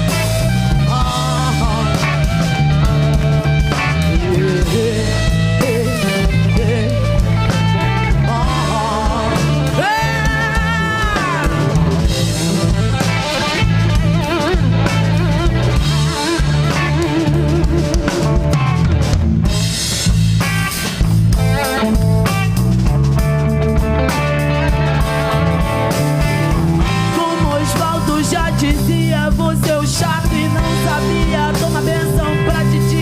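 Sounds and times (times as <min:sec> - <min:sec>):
bass guitar: 0:00.0 - 0:33.0
drum kit: 0:00.0 - 0:33.0
electric guitar lead: 0:00.0 - 0:33.0.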